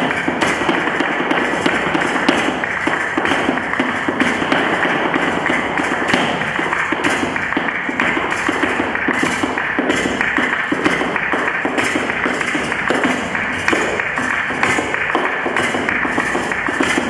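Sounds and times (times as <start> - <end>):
flamenco music: 0.0 - 17.0
shoes tapping on floor: 0.0 - 17.0.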